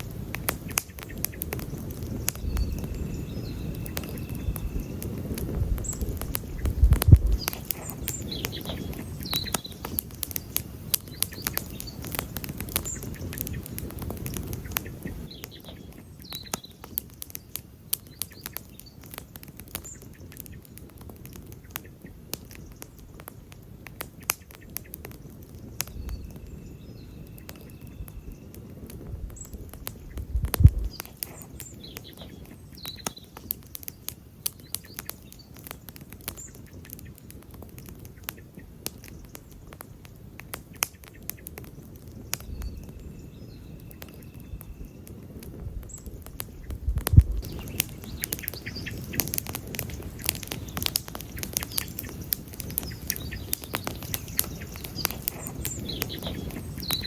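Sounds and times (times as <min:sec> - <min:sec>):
campfire crackling: 0:00.0 - 0:57.0
loud fire pops: 0:00.0 - 0:57.0.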